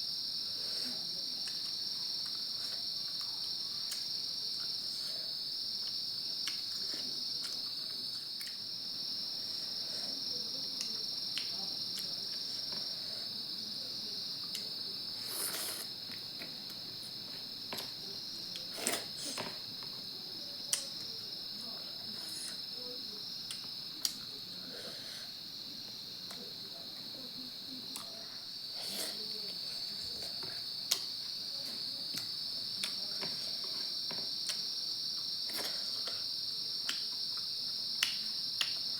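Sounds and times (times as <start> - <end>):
crickets chirring: 0.0 - 38.9
faint eating sounds: 0.0 - 38.9.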